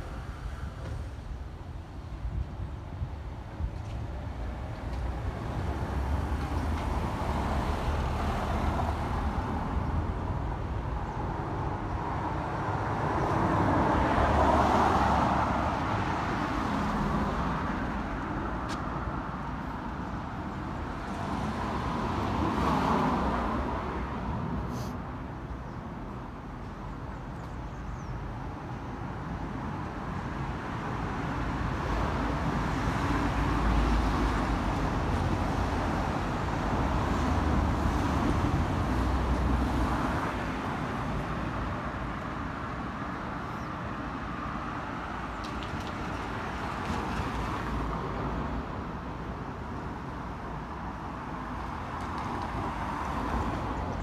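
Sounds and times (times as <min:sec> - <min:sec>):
cars passing: 0:00.0 - 0:54.0
low traffic rumble: 0:00.0 - 0:54.0.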